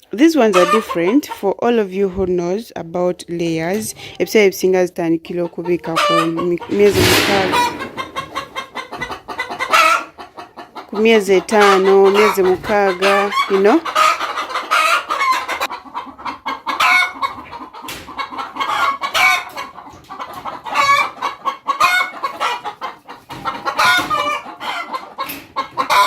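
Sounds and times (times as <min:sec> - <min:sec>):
hens clucking: 0:00.3 - 0:02.1, 0:05.2 - 0:26.0.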